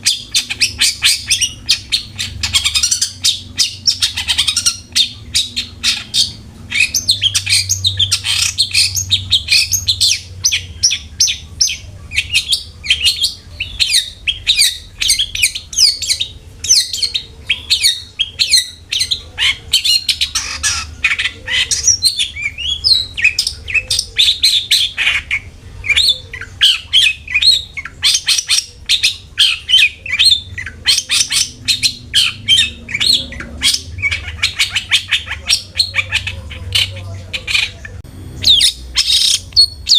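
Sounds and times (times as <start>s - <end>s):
bird chattering song: 0.0s - 39.9s
low steady hum: 0.0s - 39.9s.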